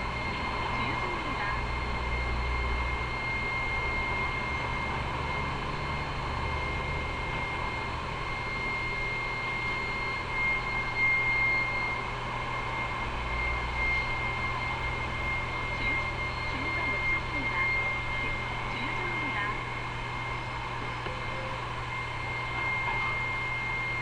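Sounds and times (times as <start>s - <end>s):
high constant whine: 0.0s - 24.0s.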